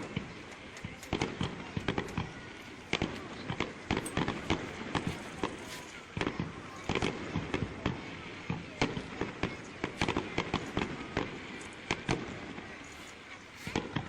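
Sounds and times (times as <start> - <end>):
fireworks cracking and popping: 0.0 - 14.0.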